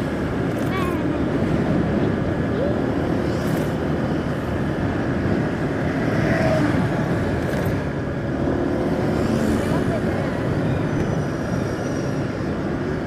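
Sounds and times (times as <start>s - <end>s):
vehicle rumbling on highway: 0.0s - 13.0s.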